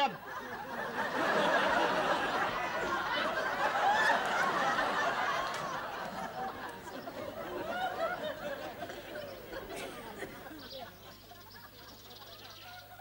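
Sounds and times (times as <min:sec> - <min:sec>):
audience laughing: 0:00.0 - 0:12.4.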